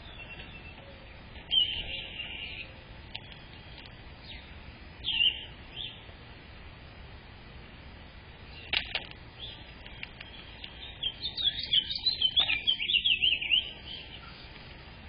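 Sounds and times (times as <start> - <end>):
songbird twittering song: 0.0 - 6.2, 8.4 - 15.0.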